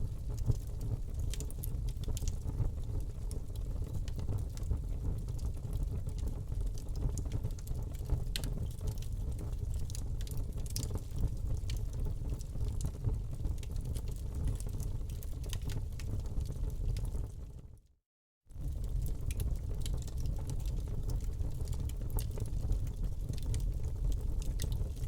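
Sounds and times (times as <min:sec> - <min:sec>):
fire popping and snapping: 0:00.2 - 0:17.3, 0:18.5 - 0:25.0.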